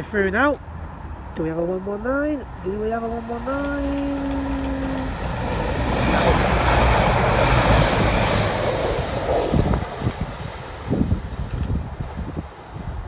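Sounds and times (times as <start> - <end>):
train passing at speed: 2.4 - 13.0.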